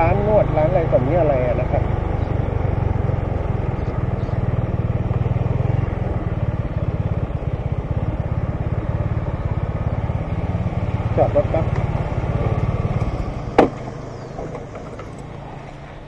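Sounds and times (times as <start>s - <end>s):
scooter engine running: 0.0s - 16.0s
wind and road noise: 0.0s - 16.0s.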